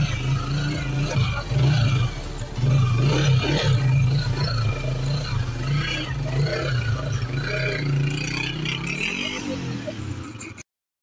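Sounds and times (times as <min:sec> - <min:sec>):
small motorcycle engine running: 0:00.0 - 0:10.6.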